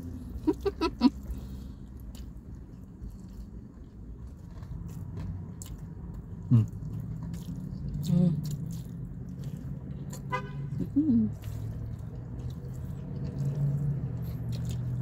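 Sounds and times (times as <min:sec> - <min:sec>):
people chewing noodles: 0:00.0 - 0:15.0.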